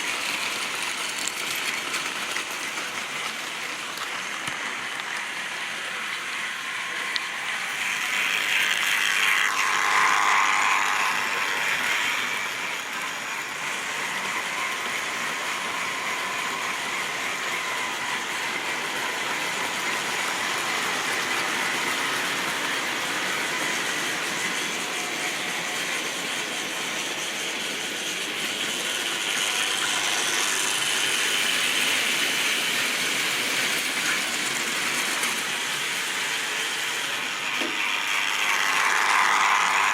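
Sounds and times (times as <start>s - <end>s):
model train motor whirring: 0.0s - 39.9s
wheels rattling over rails: 0.0s - 39.9s.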